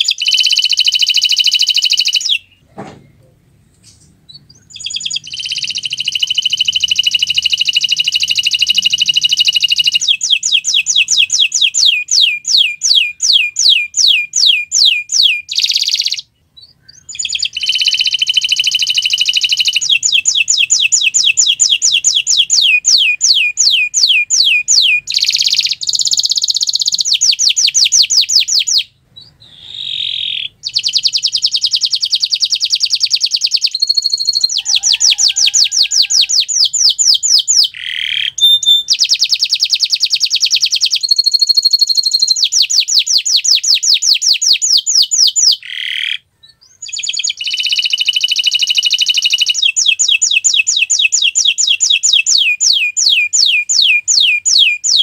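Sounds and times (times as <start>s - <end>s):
canary singing trills: 0.0s - 3.2s, 3.8s - 55.0s.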